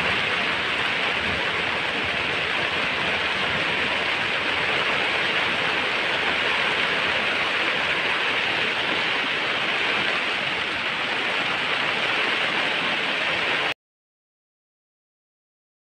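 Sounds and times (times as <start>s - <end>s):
steady rushing noise: 0.0s - 13.7s.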